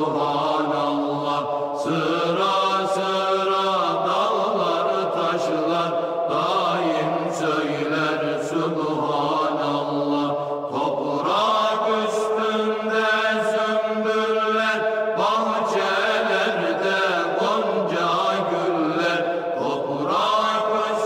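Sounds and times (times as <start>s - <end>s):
unaccompanied chanting hymn: 0.0s - 21.0s.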